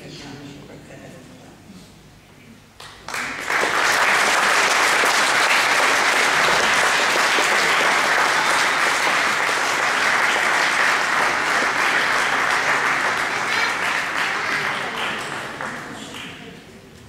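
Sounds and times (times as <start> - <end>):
audience applauding: 2.8 - 16.5.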